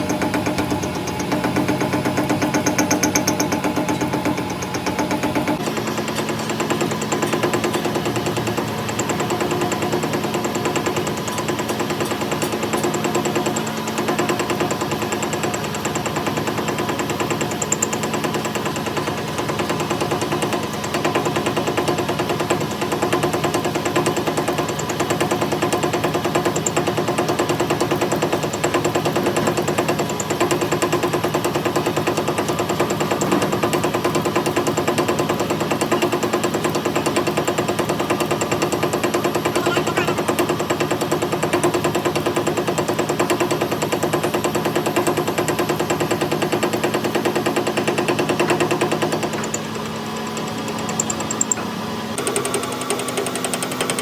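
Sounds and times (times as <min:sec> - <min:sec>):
metal lathe rattling: 0:00.0 - 0:16.4, 0:26.3 - 0:54.0.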